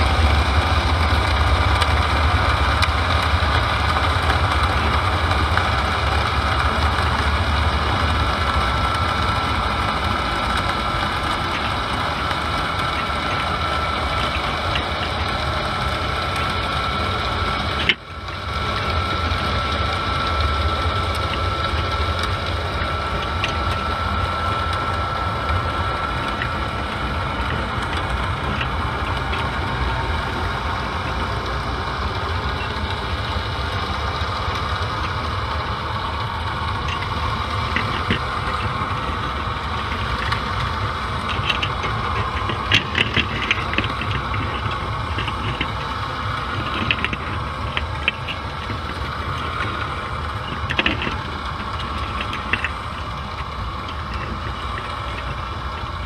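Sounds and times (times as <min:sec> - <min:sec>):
underwater engine rumble: 0:00.0 - 0:56.0.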